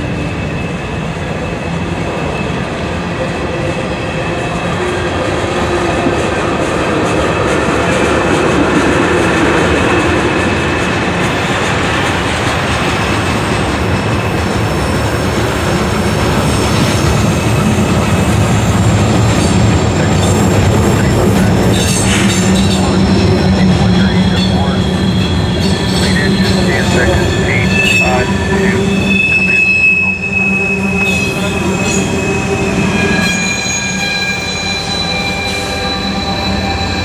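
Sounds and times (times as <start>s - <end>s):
steel wheels rumbling on rail: 0.0s - 37.0s.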